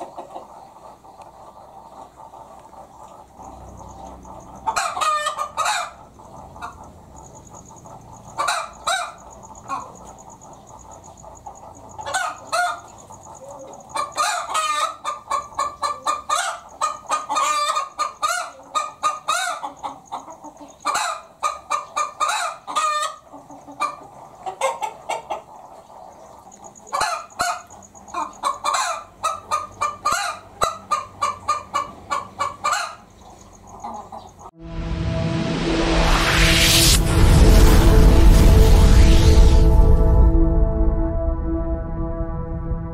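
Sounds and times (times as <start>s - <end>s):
hen cackling: 0.0s - 34.5s.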